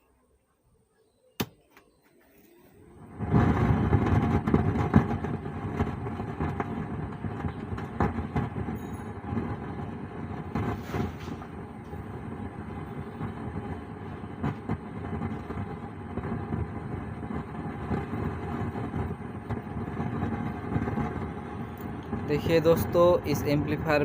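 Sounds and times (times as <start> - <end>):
amplifier rumbling crackling noise: 2.6 - 24.0.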